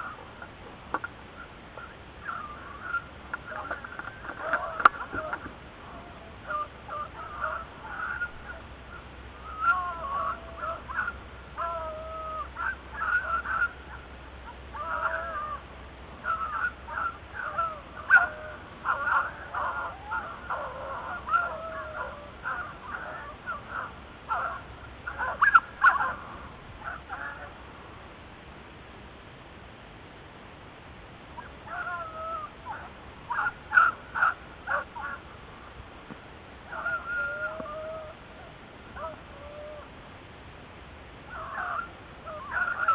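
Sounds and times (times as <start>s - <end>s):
beagles baying: 0.0s - 27.6s, 31.4s - 35.7s, 36.6s - 40.0s, 41.3s - 42.9s.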